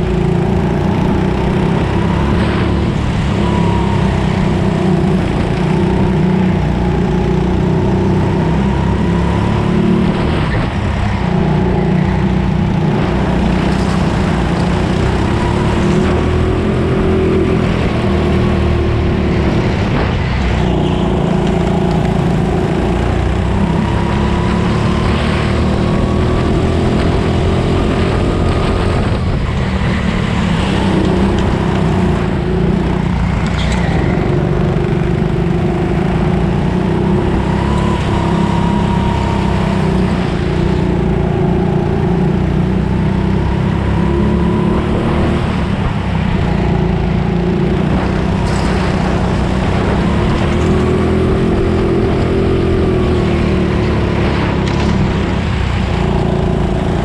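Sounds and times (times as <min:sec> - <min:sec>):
go-kart engine rumble: 0:00.0 - 0:57.0.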